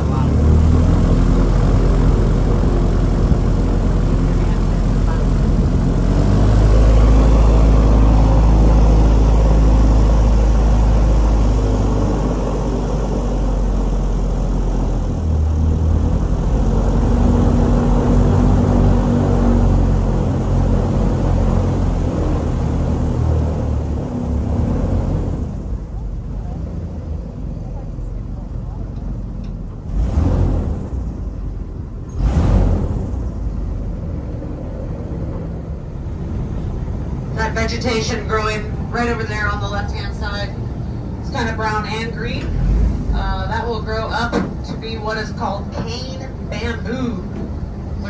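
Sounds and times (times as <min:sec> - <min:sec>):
boat engine running: 0:00.0 - 0:48.0.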